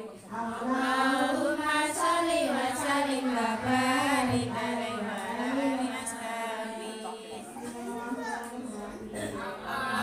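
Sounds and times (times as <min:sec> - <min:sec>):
woman chanting: 0:00.0 - 0:10.0.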